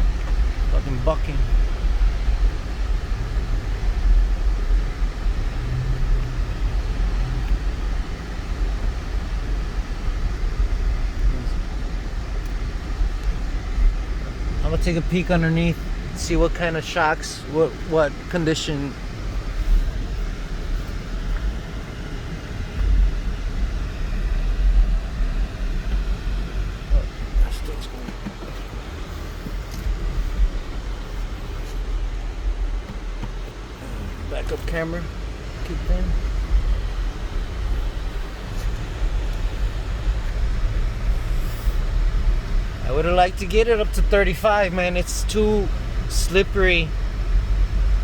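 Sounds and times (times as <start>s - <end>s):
road and engine rumble in car cabin: 0.0s - 48.0s.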